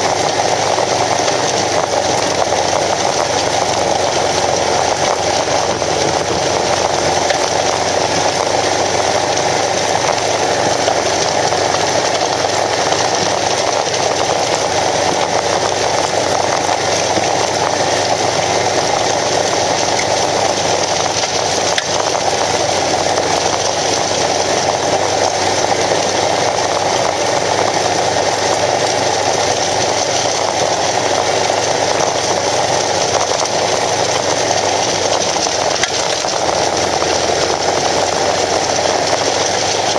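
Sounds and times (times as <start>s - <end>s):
motorcycle engine running: 0.0s - 39.9s
tyres on gravel: 0.0s - 39.9s.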